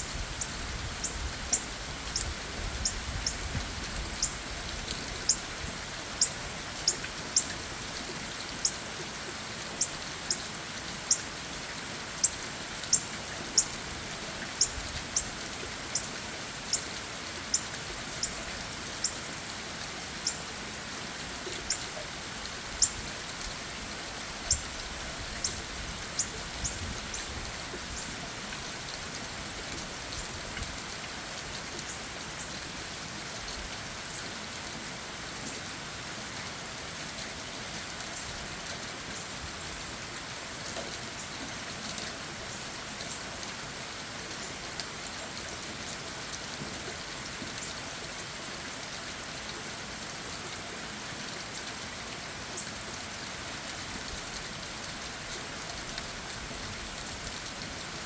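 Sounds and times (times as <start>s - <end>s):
rain on leaves and ground: 0.0s - 58.0s.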